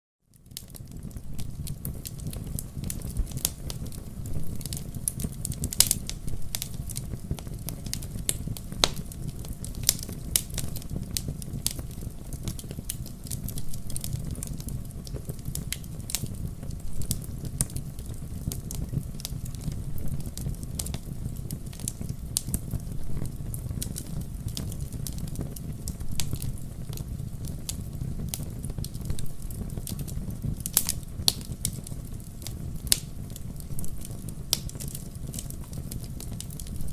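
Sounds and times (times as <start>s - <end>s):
wood fire crackling and popping: 0.3s - 36.9s.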